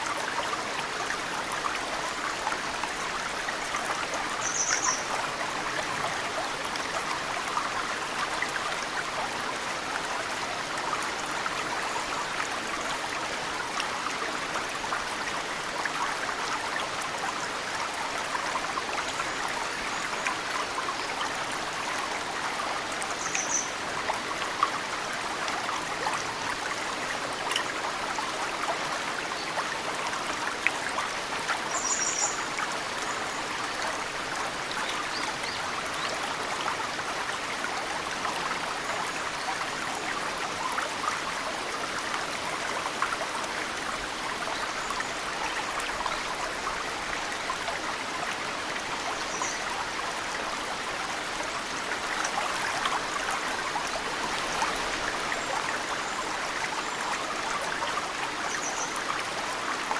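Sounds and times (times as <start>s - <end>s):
mountain stream flowing: 0.0s - 59.9s.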